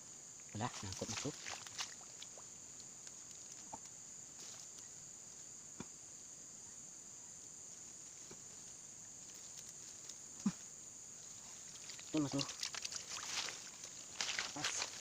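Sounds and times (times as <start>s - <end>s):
crickets and insects chirring: 0.0s - 15.0s.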